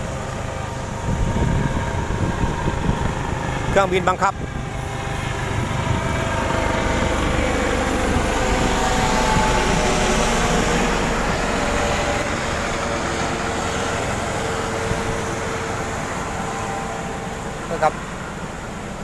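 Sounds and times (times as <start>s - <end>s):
model airplane motor droning: 0.0s - 19.0s
wind: 0.0s - 19.0s.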